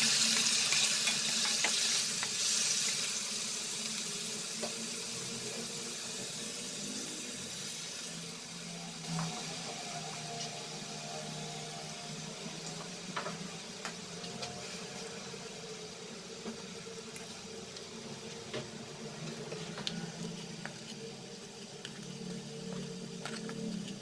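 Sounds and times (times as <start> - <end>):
bubbling sizzle in a wok: 0.0 - 24.0.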